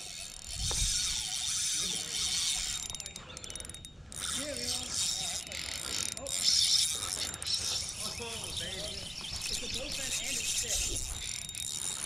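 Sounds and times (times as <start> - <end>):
fishing reel ratchet clicking: 0.0 - 12.0.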